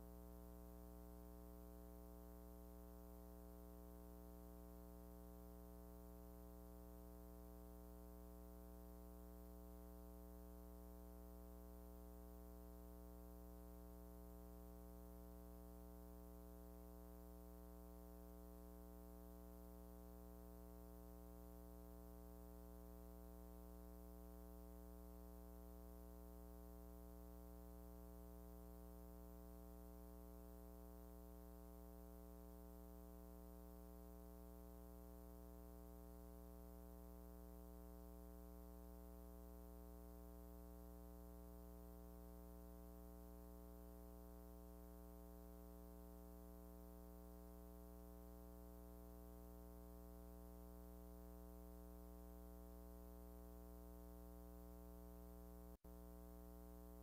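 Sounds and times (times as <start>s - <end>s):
faint mains hum: 0.0s - 57.0s.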